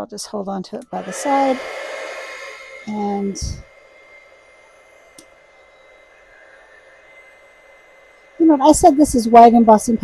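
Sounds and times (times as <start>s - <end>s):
heat gun hissing and whining: 0.9s - 10.0s.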